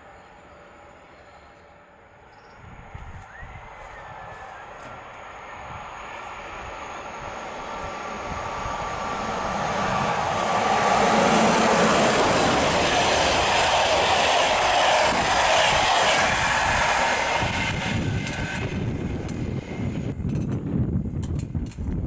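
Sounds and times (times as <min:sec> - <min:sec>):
train wheels rushing on rails: 0:00.0 - 0:22.0.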